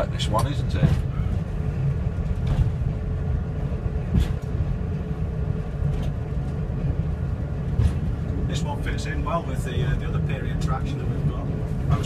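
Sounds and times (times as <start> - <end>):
diesel engine rumble: 0.0 - 12.0
train wheels on rails: 0.0 - 12.0.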